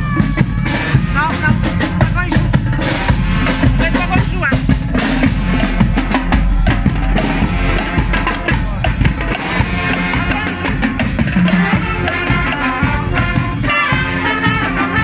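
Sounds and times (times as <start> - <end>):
bass drum and snare drums: 0.0 - 15.0
marching band playing: 0.0 - 15.0.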